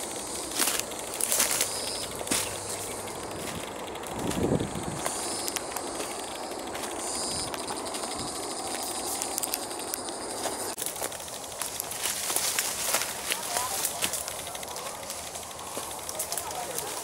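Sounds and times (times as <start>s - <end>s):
footsteps crunching on rocky trail: 0.0s - 17.0s
steady rushing noise: 0.0s - 17.0s.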